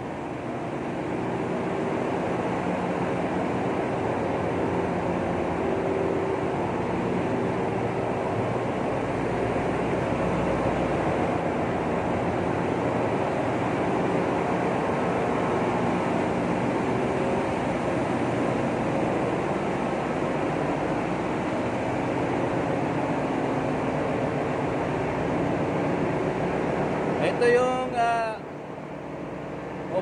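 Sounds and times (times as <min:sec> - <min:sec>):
engine room machinery din: 0:00.0 - 0:30.0
low hum tones: 0:00.0 - 0:30.0.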